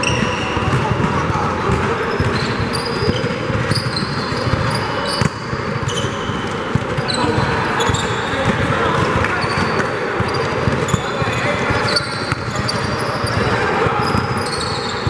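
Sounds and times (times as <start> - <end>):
basketball bouncing: 0.0 - 14.5
large hall background noise: 0.0 - 15.0
sneakers squeaking: 0.0 - 15.0.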